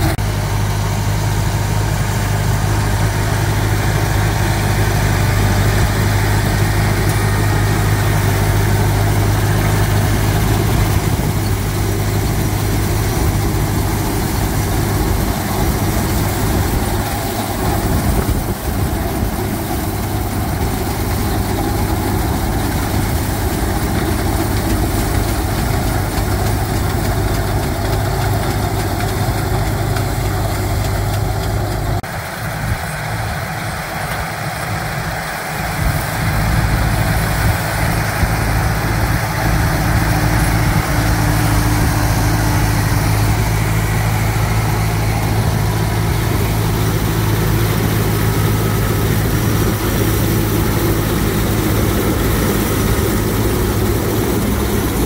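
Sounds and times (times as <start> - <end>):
combine harvesting machinery: 0.0 - 55.0
tractor engine running: 0.0 - 55.0.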